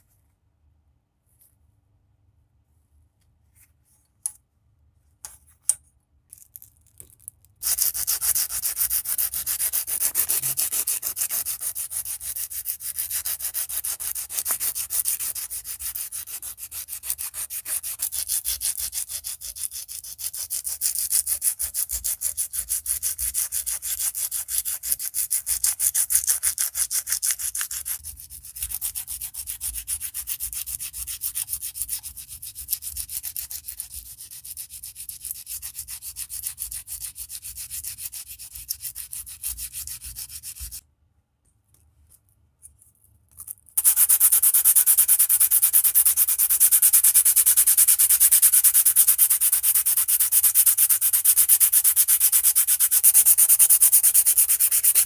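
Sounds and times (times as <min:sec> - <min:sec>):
sandpaper scratching wood: 0:07.6 - 0:40.8, 0:43.8 - 0:55.0.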